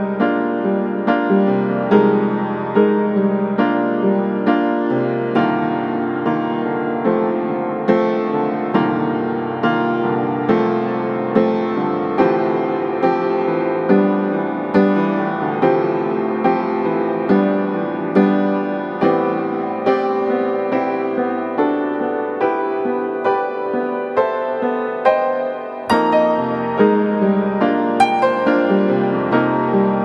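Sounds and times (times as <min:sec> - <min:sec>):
slow gentle piano music: 0:00.0 - 0:30.0.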